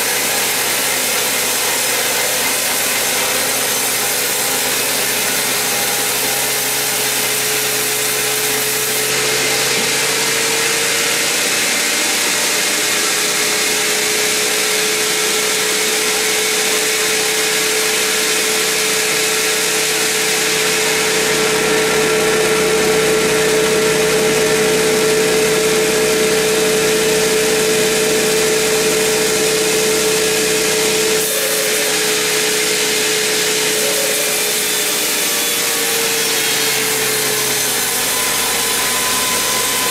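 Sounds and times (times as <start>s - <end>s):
band saw machine hum and whine: 0.0s - 39.9s.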